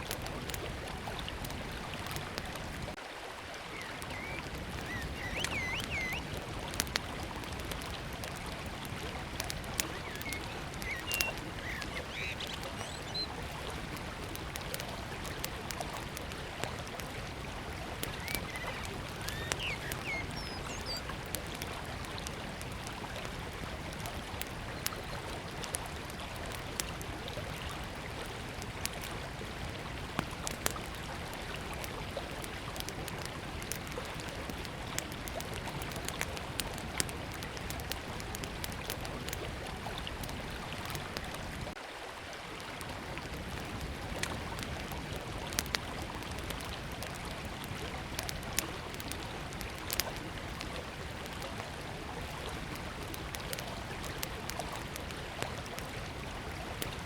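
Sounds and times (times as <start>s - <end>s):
wood fire crackling: 0.0s - 41.8s, 43.2s - 57.0s
river flowing: 0.0s - 57.0s.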